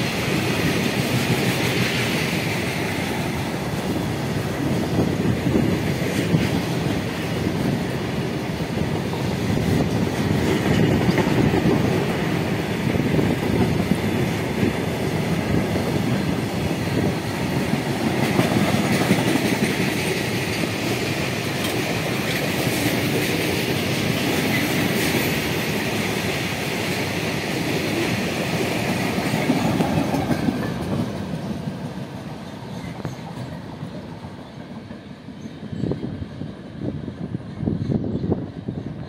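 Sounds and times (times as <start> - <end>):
freight train wheels on rails: 0.0 - 39.0.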